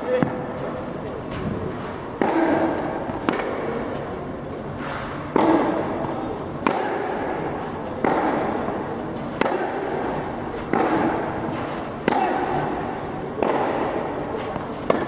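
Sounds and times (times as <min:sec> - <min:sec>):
racket hitting tennis ball: 0:01.2 - 0:15.0.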